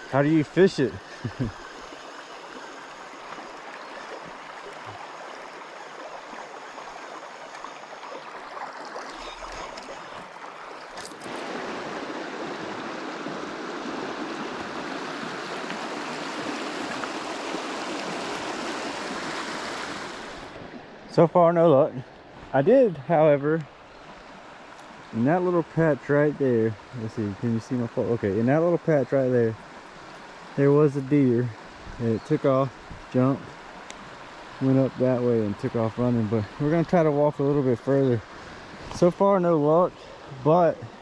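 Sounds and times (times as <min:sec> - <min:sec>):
water running over rocks: 0:00.0 - 0:21.9, 0:22.5 - 0:41.0.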